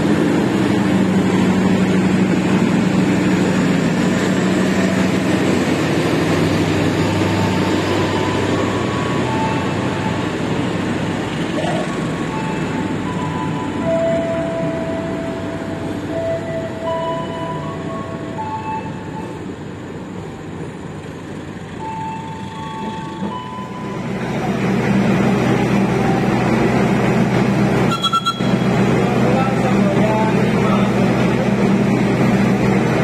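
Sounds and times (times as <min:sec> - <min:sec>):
diesel engine humming: 0:00.0 - 0:33.0
train rolling with low rumble: 0:00.0 - 0:33.0.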